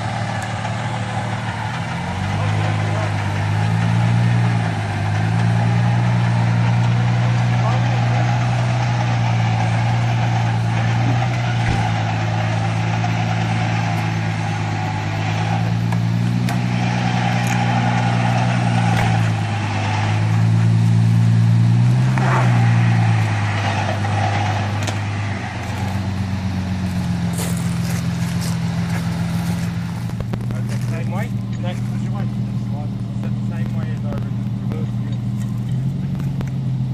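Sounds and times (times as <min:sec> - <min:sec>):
engine running at low revs: 0:00.0 - 0:36.9.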